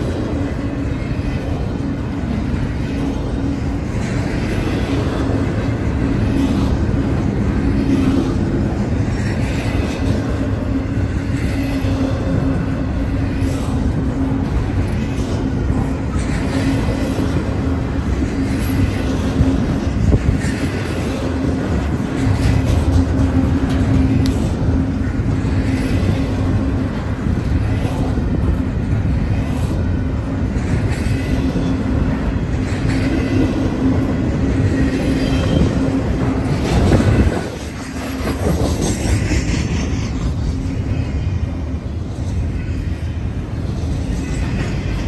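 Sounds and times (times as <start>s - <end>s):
container train rumbling past: 0.0s - 45.0s.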